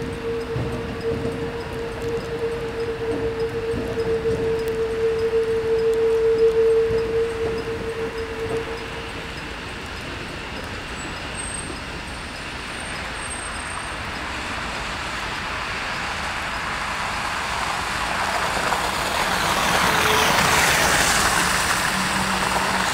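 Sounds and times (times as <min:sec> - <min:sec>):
bus tyres on snow: 0:00.0 - 0:22.9
road traffic noise: 0:00.0 - 0:22.9.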